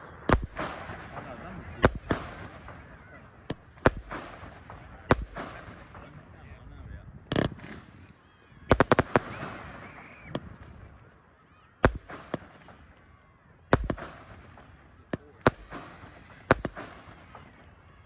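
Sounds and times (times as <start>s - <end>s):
fireworks crackling: 0.0s - 6.3s, 7.3s - 11.0s, 11.8s - 13.0s, 13.7s - 18.0s
fireworks bangs: 0.0s - 11.0s, 11.8s - 18.0s.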